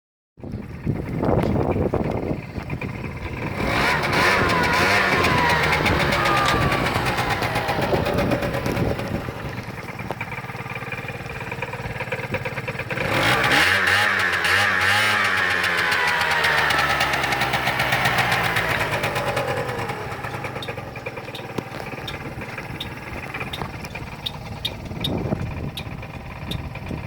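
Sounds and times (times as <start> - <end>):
scooter engine revving: 0.4 - 27.0.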